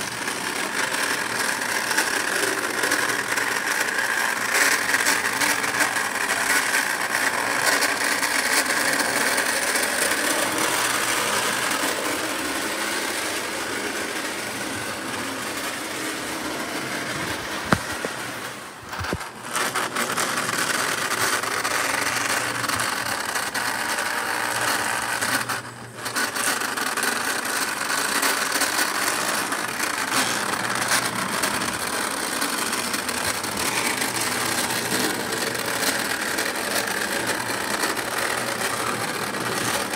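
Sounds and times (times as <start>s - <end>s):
toy train motor whirring: 0.0s - 39.9s
wheels rattling on rails: 0.0s - 39.9s.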